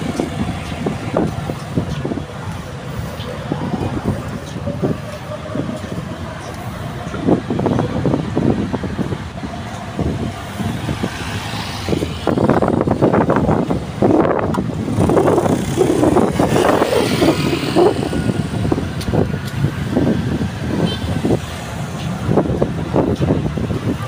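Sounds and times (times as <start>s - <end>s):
cars and motorbikes passing: 0.0s - 24.0s.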